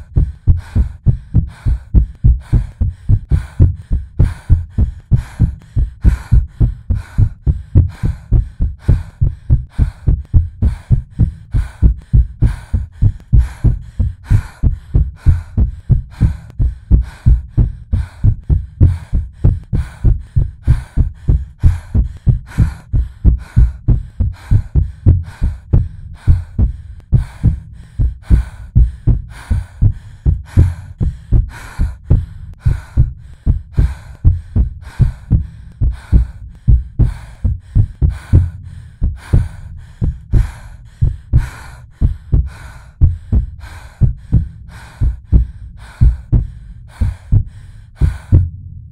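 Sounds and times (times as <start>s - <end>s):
heartbeat thuds: 0.0s - 48.9s.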